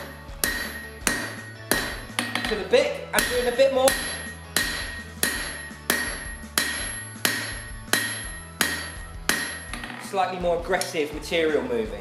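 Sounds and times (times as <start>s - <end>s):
anvil ringing: 0.0s - 10.2s
hammer striking steel on anvil: 0.0s - 10.2s.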